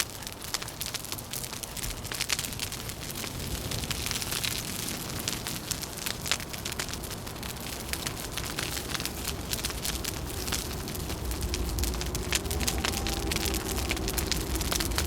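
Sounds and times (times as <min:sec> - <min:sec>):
fire crackling and popping: 0:00.0 - 0:15.0
low rumble of wind: 0:00.0 - 0:15.0.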